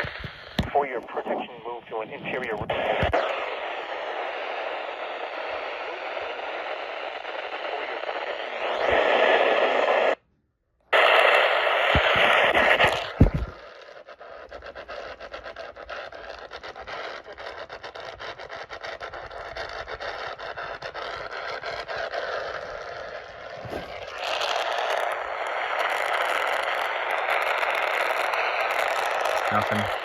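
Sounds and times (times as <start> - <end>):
radio static hiss with clicks: 0.0 - 10.2, 10.9 - 30.0.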